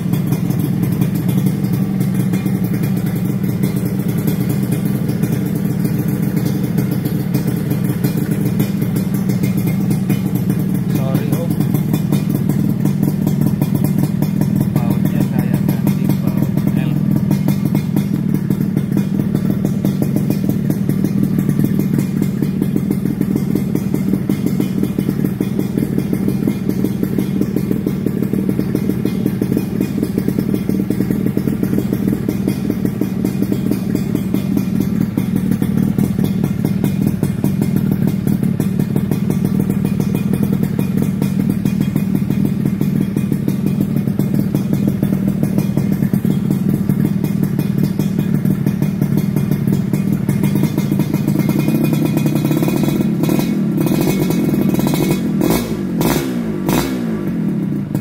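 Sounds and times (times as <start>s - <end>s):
two-stroke motorcycle engine running: 0.0s - 58.0s.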